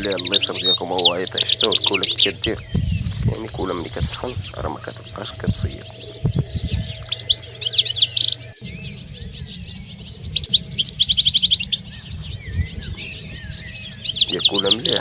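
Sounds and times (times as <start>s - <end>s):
goldfinch twittering and trills: 0.0s - 15.0s.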